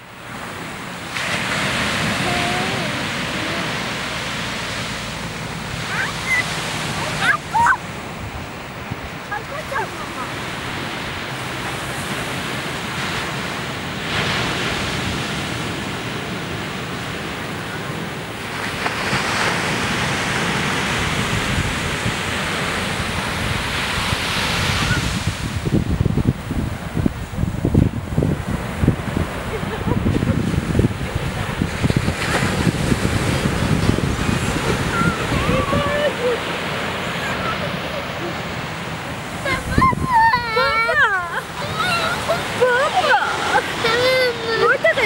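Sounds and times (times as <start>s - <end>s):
ocean surf on beach: 0.0s - 45.0s
wind buffeting microphone: 0.0s - 45.0s.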